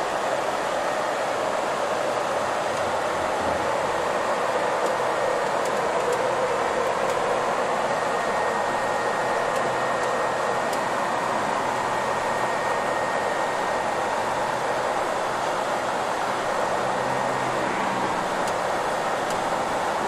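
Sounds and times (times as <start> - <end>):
bus road and engine noise: 0.0 - 20.0
faint high whine: 0.0 - 20.0.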